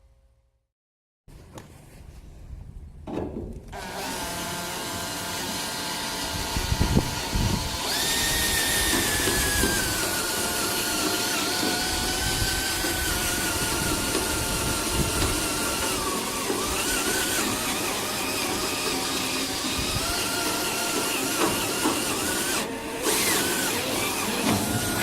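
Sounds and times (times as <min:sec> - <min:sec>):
power drill drilling through metal: 0:03.7 - 0:25.0.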